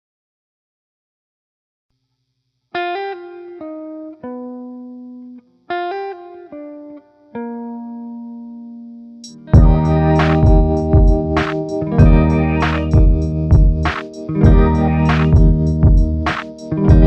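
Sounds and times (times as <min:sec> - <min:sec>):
plucked guitar melody: 0:02.8 - 0:17.0.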